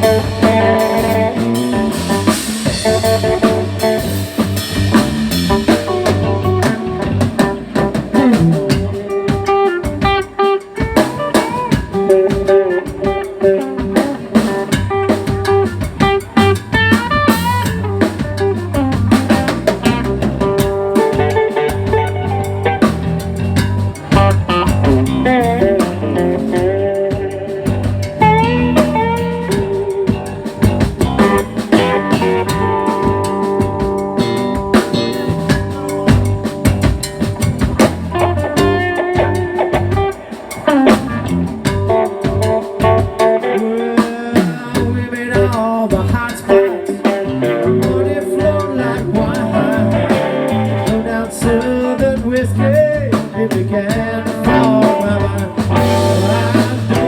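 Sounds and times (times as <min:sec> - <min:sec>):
bass guitar: 0:00.0 - 0:57.0
drum kit: 0:00.0 - 0:57.0
electric guitar lead with bent notes: 0:00.0 - 0:57.0.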